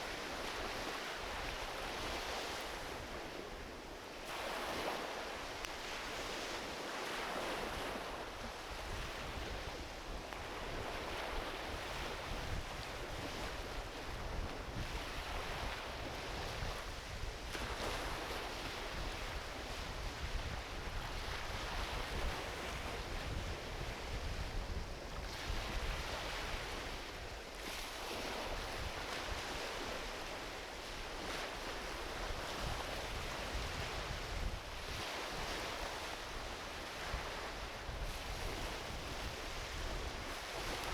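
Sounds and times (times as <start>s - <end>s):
small waves washing onto beach: 0.0s - 40.9s.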